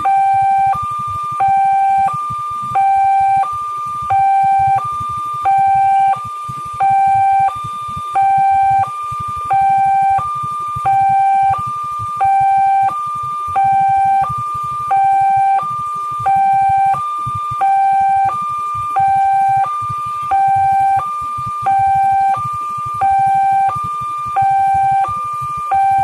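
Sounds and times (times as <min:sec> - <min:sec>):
two-tone level crossing alarm: 0:00.0 - 0:26.0.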